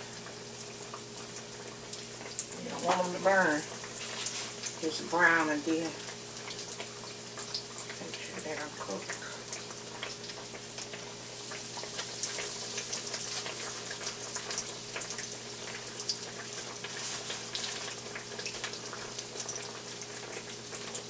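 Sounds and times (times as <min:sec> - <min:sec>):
food frying in oil: 0:00.0 - 0:21.0.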